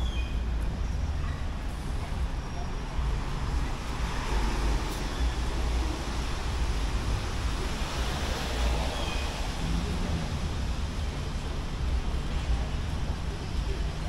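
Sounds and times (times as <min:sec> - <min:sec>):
traffic hiss: 0:00.0 - 0:14.0.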